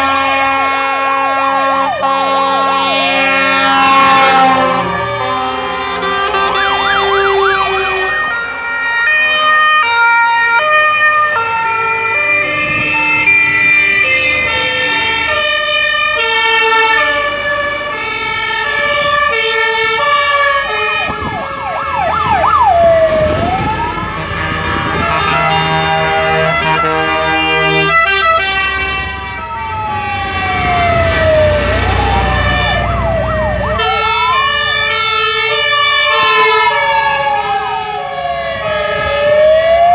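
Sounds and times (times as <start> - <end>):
fire engine sirens: 0.0 - 39.9
truck engine rumble: 0.0 - 39.9.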